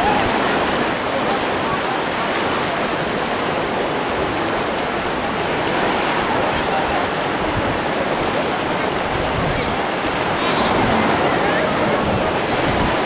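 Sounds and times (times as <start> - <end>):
small waves washing: 0.0 - 13.0.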